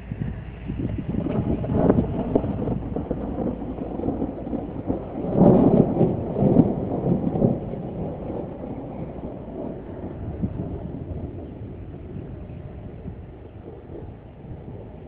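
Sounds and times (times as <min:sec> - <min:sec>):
thunder rolling: 0:00.0 - 0:15.0.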